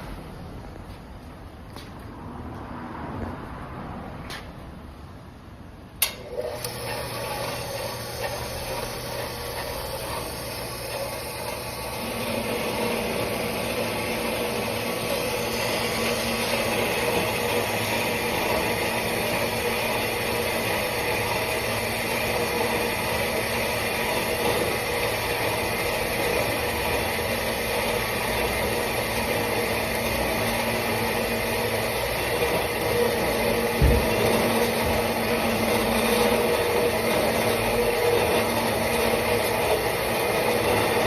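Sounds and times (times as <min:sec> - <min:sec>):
band saw running: 0:06.2 - 0:41.0.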